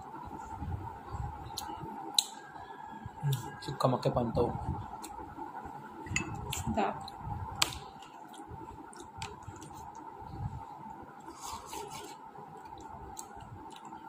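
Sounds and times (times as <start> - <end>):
faint steady hum: 0.0 - 14.0
soft eating sounds: 1.1 - 3.9, 4.7 - 5.3, 6.0 - 14.0.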